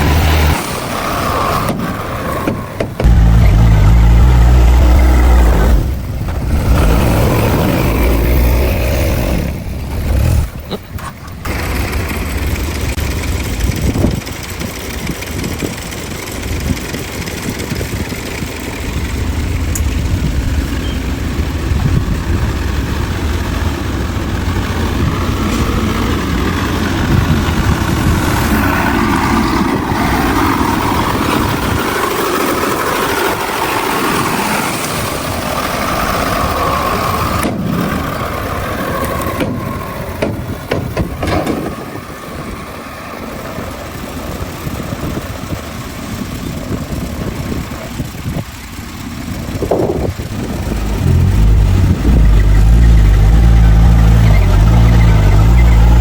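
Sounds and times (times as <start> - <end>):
heavy diesel engine: 0.0 - 56.0.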